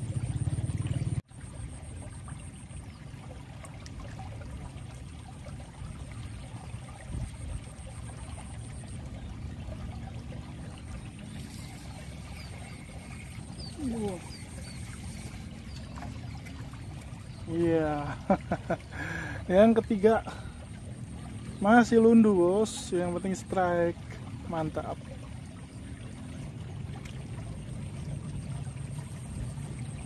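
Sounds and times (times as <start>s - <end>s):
water running and trickling: 0.0s - 30.0s.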